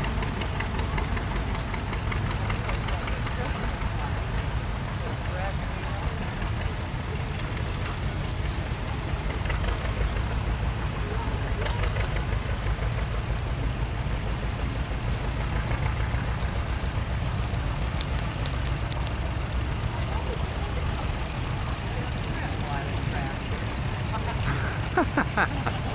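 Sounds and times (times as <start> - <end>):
tractor engines rumbling: 0.0 - 25.9.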